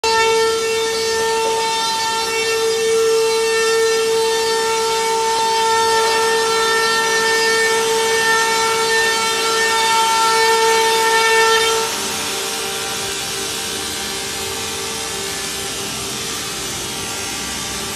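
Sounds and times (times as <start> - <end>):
router spindle motor whine: 0.0 - 17.9.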